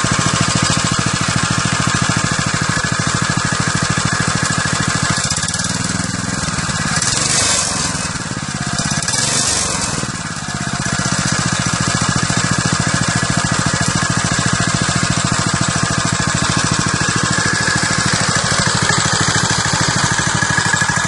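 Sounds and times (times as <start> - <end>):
small motorbike engine idling and revving: 0.0 - 21.0.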